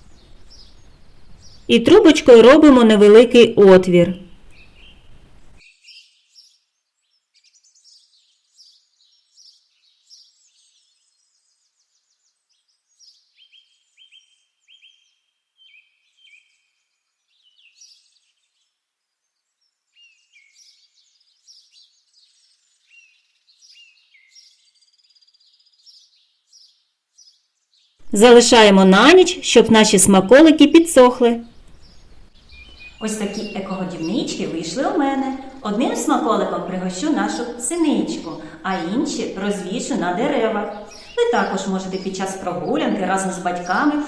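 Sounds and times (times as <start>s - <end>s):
songbirds chirping: 0.0s - 44.0s.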